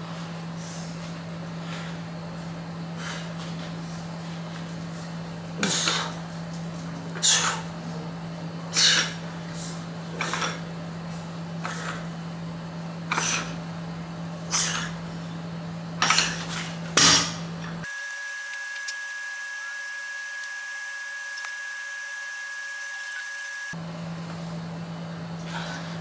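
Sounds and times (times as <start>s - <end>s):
low room hum: 0.0s - 17.9s, 22.8s - 26.0s.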